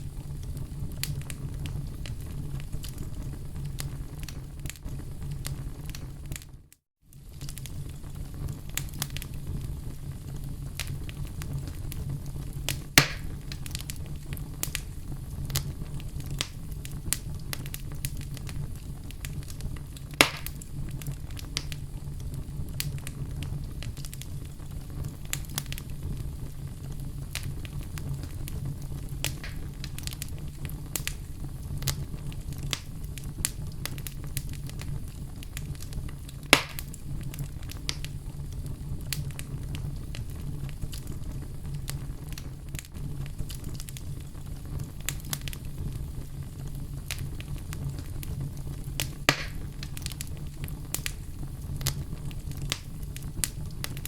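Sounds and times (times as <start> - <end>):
wood crackling: 0.0 - 54.0
wood fire burning: 0.0 - 54.0
loud pops from burning wood: 0.1 - 54.0.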